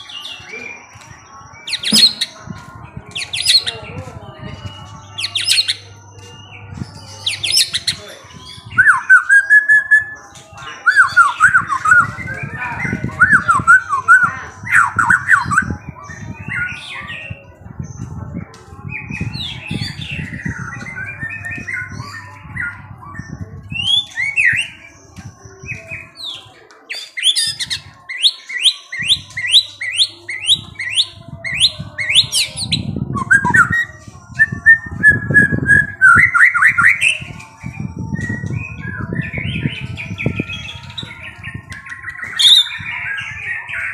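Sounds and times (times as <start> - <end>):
songbird chirping and twittering: 0.0 - 43.9.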